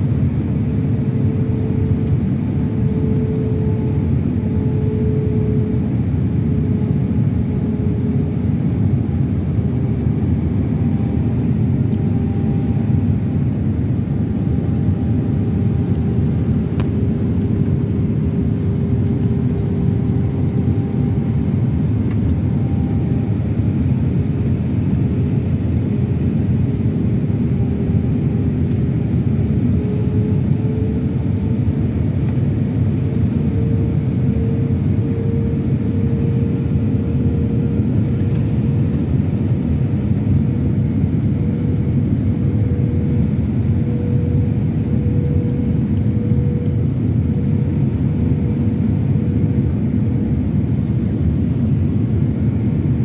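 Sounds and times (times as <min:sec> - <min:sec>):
engine rumble and rushing air: 0:00.0 - 0:53.0
humming tone: 0:01.0 - 0:53.0.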